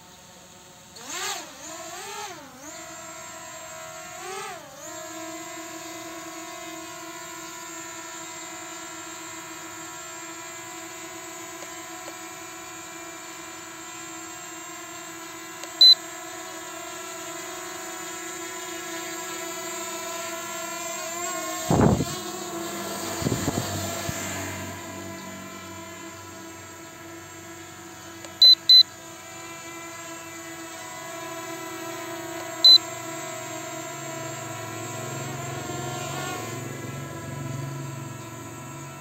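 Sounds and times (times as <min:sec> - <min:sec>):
drone propellers humming: 0:06.0 - 0:39.0.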